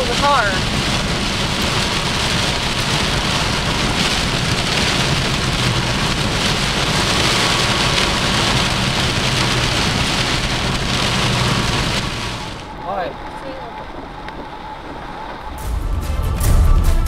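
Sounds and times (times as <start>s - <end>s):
engine and road drone: 0.0s - 17.0s
rain and wind on car: 0.0s - 17.0s.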